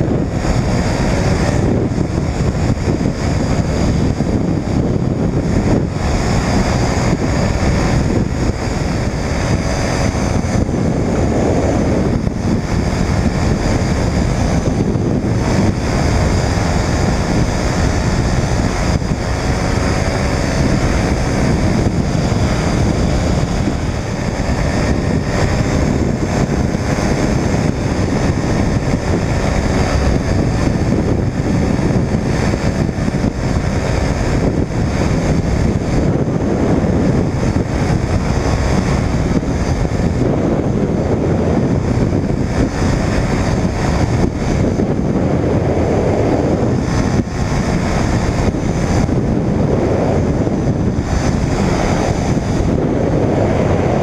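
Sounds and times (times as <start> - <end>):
microlight engine running: 0.0 - 54.0
wind rush on microphone: 0.0 - 54.0.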